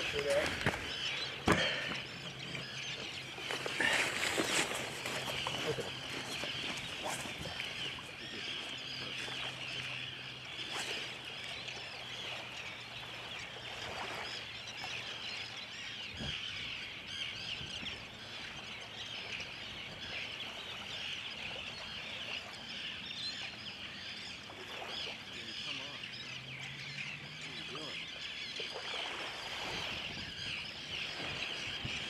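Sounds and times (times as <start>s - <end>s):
seabirds calling: 0.0s - 32.0s.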